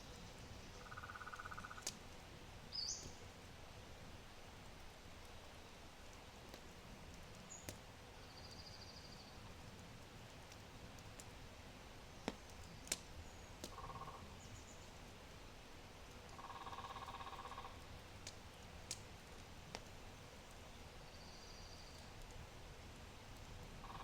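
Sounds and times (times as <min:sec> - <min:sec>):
wood fire crackling: 0:00.0 - 0:23.9
fire popping: 0:01.4 - 0:08.0, 0:09.4 - 0:16.4, 0:17.0 - 0:21.1, 0:21.8 - 0:23.8.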